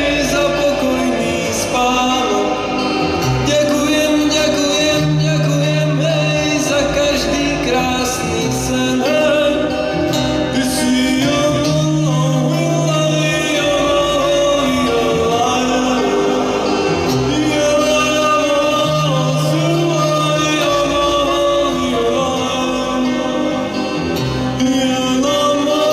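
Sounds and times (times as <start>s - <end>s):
bass notes: 0.0s - 25.9s
person singing: 0.0s - 25.9s.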